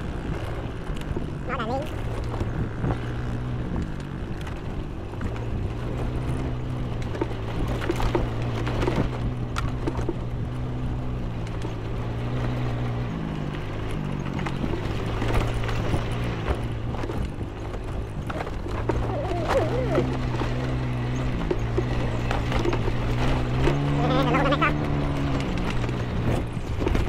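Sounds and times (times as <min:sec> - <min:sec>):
knocks and rattles from bumps: 0:00.0 - 0:27.0
small vehicle engine running: 0:00.0 - 0:27.0.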